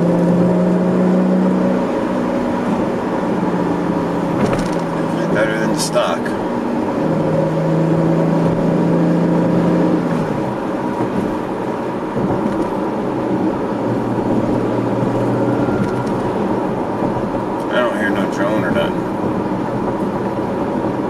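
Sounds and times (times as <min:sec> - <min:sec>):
car engine and exhaust in cabin: 0:00.0 - 0:21.0.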